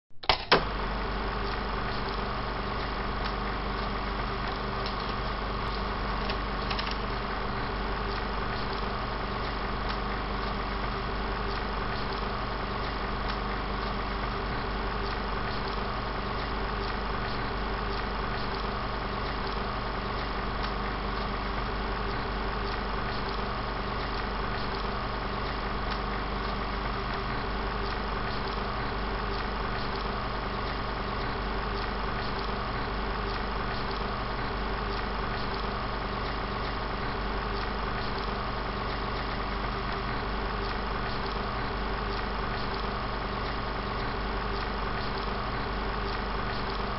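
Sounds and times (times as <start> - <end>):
film projector whirring: 0.2 - 46.9.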